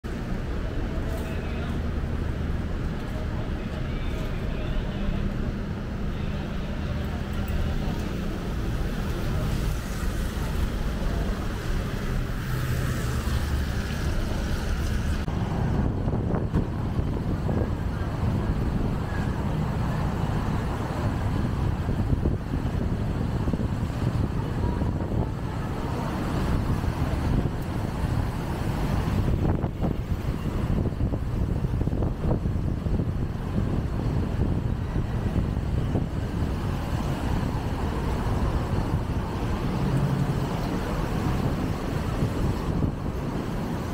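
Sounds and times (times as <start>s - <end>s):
engine hum: 0.0s - 43.9s
passing traffic rumble: 0.0s - 43.9s.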